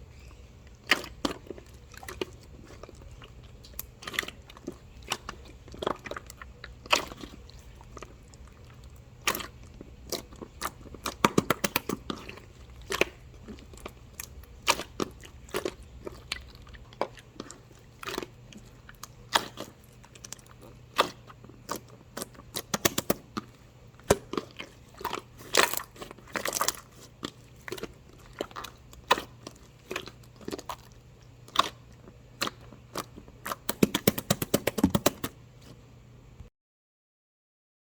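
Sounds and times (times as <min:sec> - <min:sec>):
crunchy chewing: 0:00.0 - 0:35.8.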